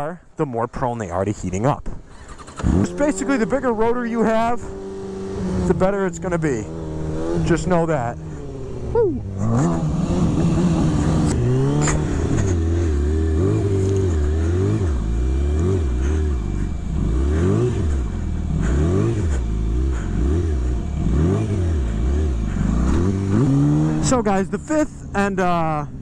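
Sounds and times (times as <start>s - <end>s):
motorcycle engine revving: 2.0s - 26.0s.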